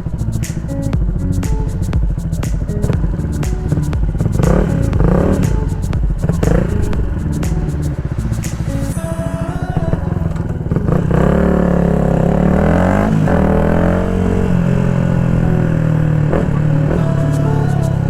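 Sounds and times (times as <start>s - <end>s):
gear change: 0.0s - 18.0s
motorcycle engine accelerating: 0.0s - 18.0s.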